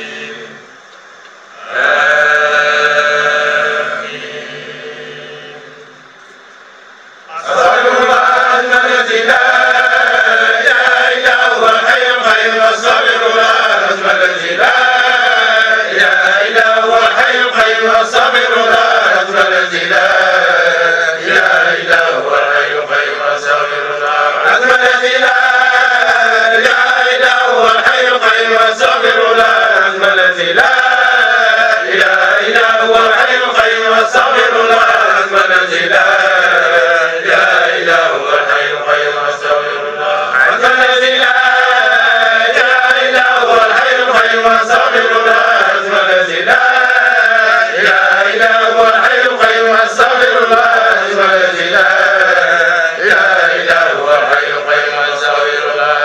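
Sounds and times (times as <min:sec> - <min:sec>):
men chanting in unison: 0:00.0 - 0:00.7, 0:01.6 - 0:05.8, 0:07.3 - 0:56.0.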